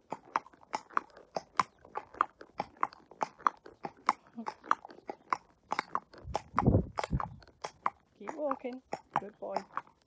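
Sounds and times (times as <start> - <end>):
horse hooves on tarmac: 0.0 - 10.0.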